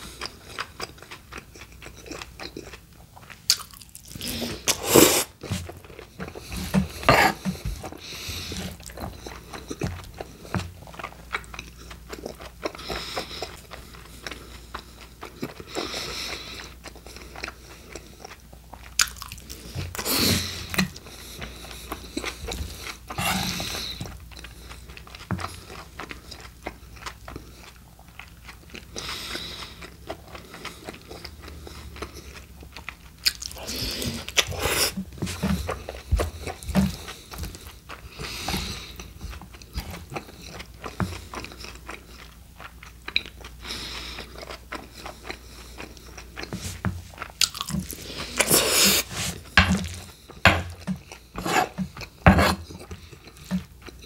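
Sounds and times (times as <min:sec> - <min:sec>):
wet crunchy chewing: 0:00.0 - 0:54.0.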